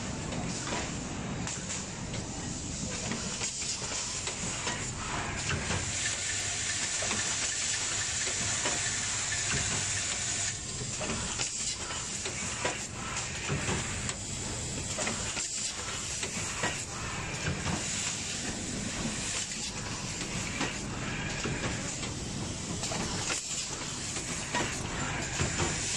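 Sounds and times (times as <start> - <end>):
welding machine hissing: 3.4 - 25.9.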